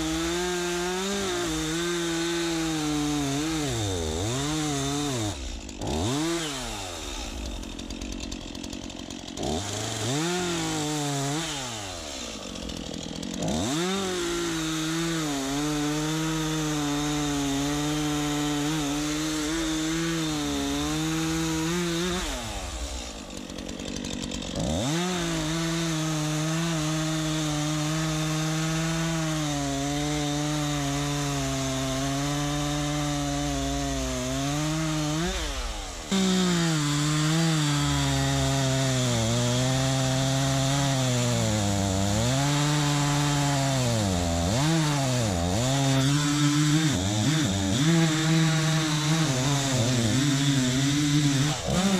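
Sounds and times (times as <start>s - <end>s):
chainsaw revving and cutting wood: 0.0s - 51.9s.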